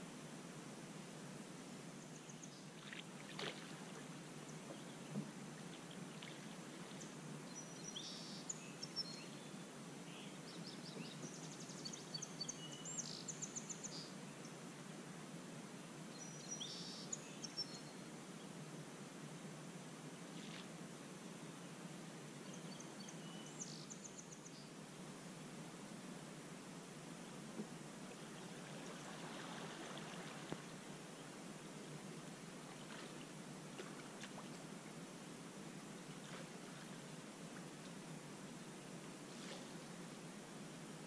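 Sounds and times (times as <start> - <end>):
faint background hiss: 0.0 - 41.0.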